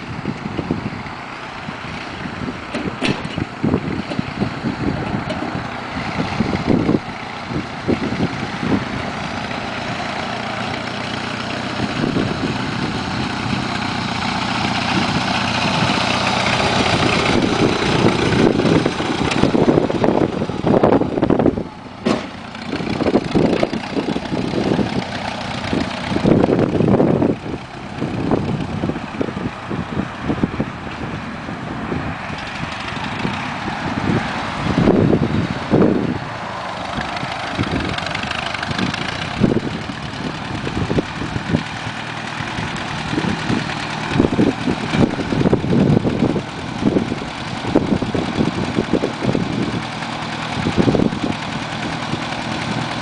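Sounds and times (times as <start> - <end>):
small tractor engine running: 0.0 - 53.0.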